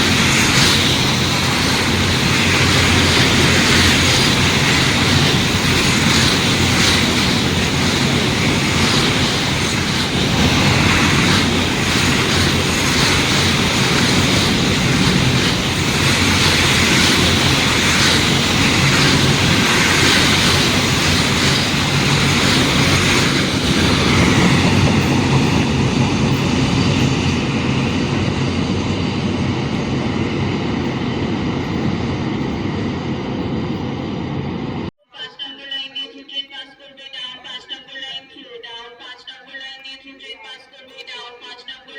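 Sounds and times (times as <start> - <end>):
freight train wheels on rail: 0.0 - 34.9.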